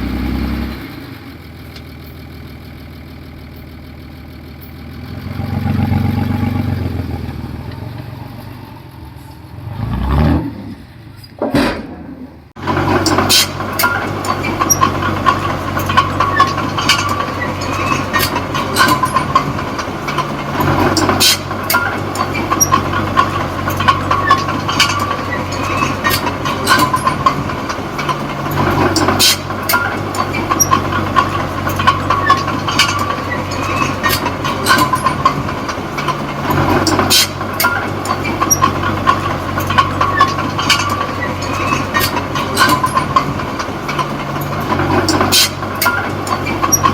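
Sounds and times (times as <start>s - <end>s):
bulldozer diesel engine: 0.0s - 46.9s
steel tracks clanking and squeaking: 3.4s - 46.9s.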